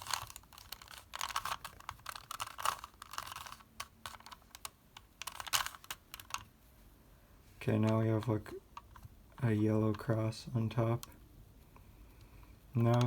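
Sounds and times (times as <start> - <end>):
puzzle cube plastic clicking: 0.0 - 6.5, 7.8 - 11.2, 12.1 - 13.0.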